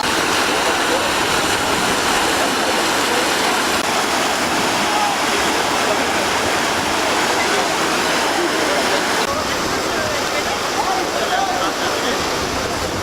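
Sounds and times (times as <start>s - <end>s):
faint distant voices: 0.0s - 13.0s
waterfall rushing: 0.0s - 13.0s.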